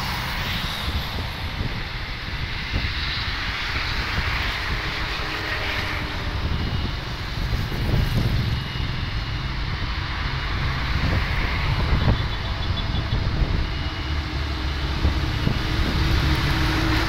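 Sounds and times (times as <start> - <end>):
distant airliner engines: 0.0 - 17.0.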